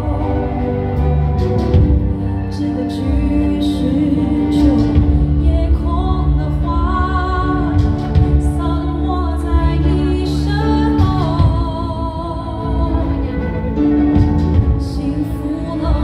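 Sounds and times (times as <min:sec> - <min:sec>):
small band playing: 0:00.0 - 0:16.0
woman singing: 0:00.0 - 0:16.0.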